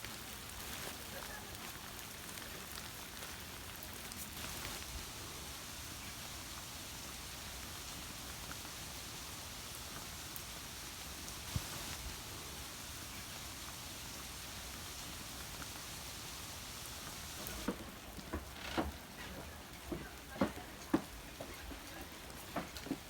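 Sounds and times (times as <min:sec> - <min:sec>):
rain hissing: 0:00.0 - 0:23.0.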